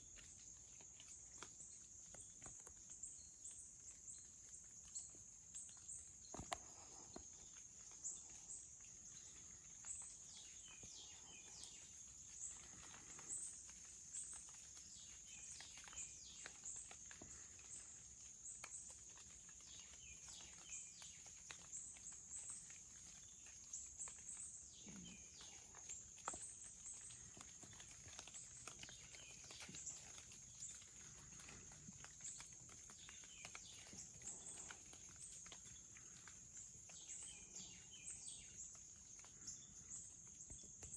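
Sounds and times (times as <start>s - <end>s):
light clicks and rustles: 0.1s - 40.9s.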